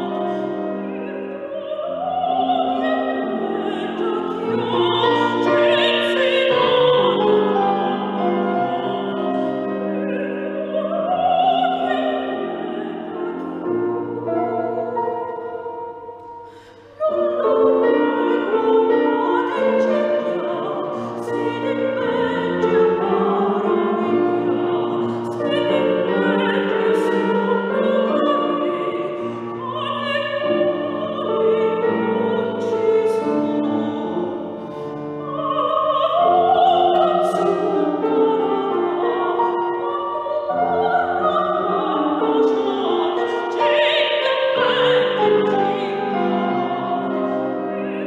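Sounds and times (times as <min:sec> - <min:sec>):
grand piano accompaniment: 0:00.0 - 0:48.0
soprano singing: 0:00.0 - 0:48.0.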